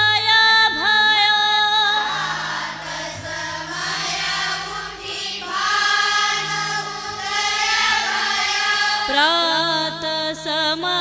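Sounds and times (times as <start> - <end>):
devotional singing: 0.0 - 11.0.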